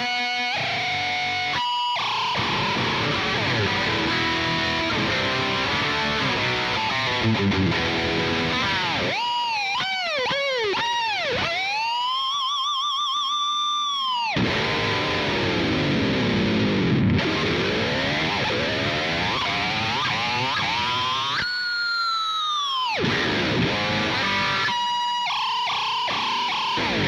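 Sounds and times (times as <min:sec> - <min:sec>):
distorted electric guitar bends: 0:00.0 - 0:27.0.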